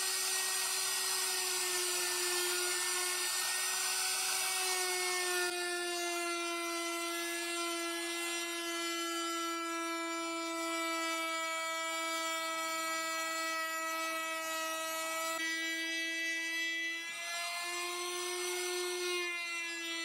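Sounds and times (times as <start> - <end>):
router whining cutting plywood: 0.0 - 20.0.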